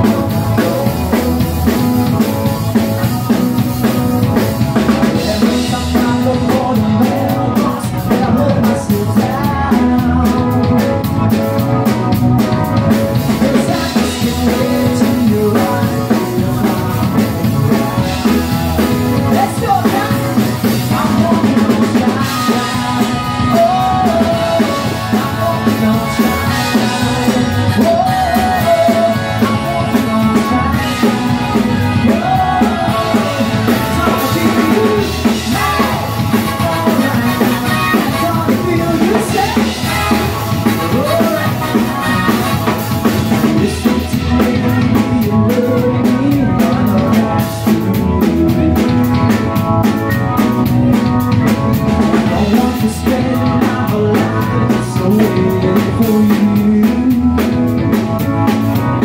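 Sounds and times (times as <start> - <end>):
drum beat: 0.0 - 54.4
person singing: 0.0 - 59.0.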